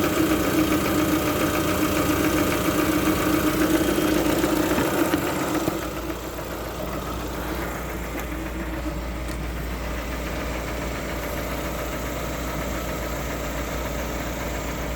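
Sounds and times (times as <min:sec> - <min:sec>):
car engine idling with knock: 0:00.0 - 0:14.9.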